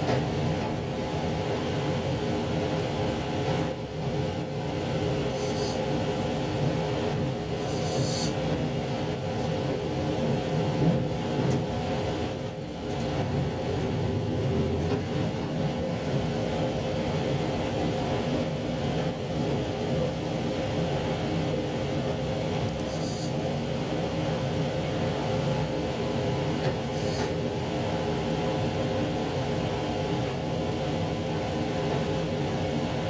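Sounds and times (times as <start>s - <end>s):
diesel railcar engine hum: 0.0s - 33.0s
wheels rumbling on track: 0.0s - 33.0s.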